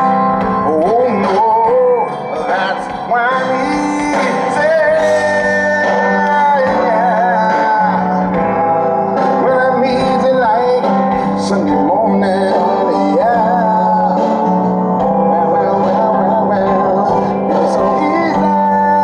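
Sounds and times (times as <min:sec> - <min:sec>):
live band with singing: 0:00.0 - 0:19.0.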